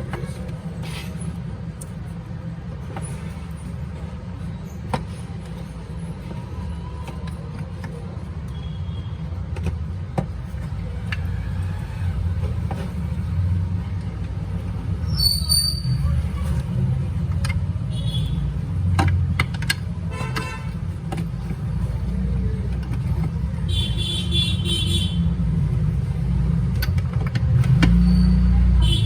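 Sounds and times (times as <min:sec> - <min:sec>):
low rumble of road traffic: 0:00.0 - 0:29.0.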